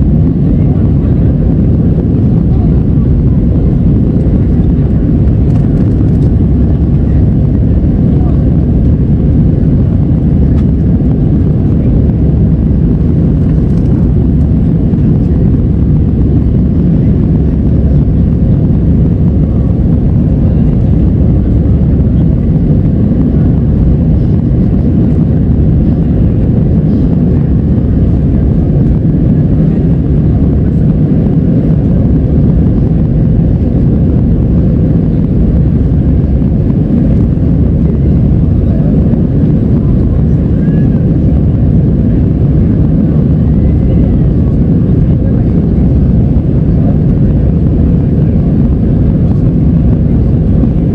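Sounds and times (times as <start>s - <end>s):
jet engines rumbling: 0.0s - 50.9s
rushing air: 0.0s - 50.9s.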